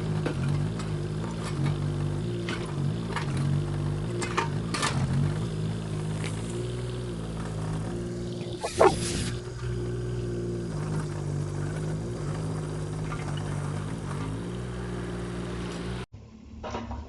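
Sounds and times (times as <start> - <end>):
diesel excavator engine running: 0.0 - 16.1.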